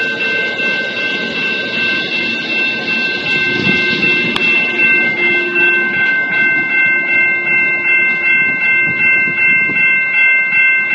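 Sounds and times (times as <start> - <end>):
passenger train rumbling on rails: 0.0 - 10.9
railroad crossing bell ringing: 0.0 - 10.9.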